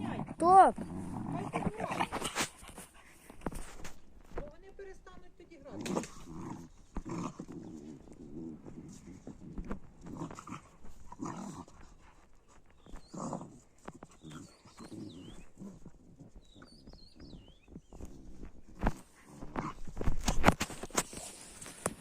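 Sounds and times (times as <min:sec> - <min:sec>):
dogs growling: 0:00.0 - 0:04.0, 0:05.7 - 0:22.0.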